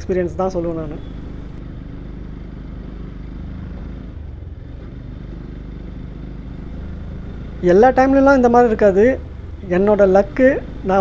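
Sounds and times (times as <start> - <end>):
motorcycle engine running: 0.0 - 1.6, 2.7 - 11.0.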